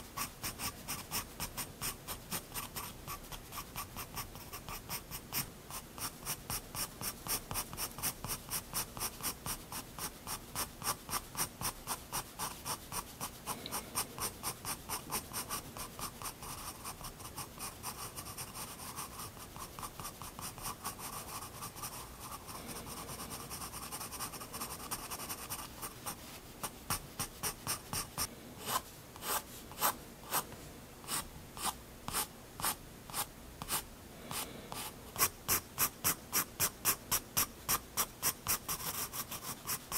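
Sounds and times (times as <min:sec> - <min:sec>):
pencil scratching on paper: 0:00.1 - 0:13.4, 0:14.0 - 0:26.2, 0:26.9 - 0:30.4, 0:31.1 - 0:39.9.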